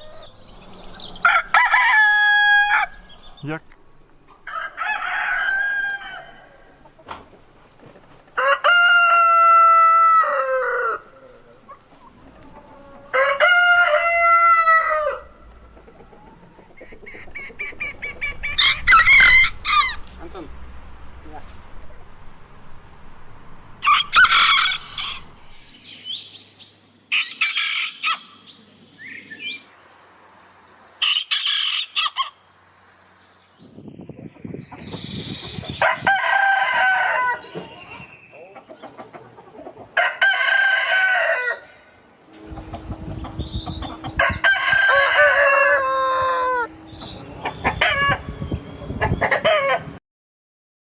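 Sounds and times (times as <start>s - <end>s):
roosters crowing: 0.0s - 21.2s, 22.5s - 25.8s, 27.1s - 28.6s, 31.0s - 32.4s, 35.4s - 39.0s, 39.8s - 50.0s.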